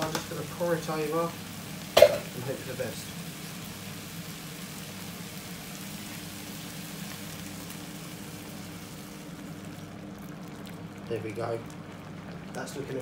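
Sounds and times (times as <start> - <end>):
chicken sizzling in a frying pan: 0.0 - 13.0.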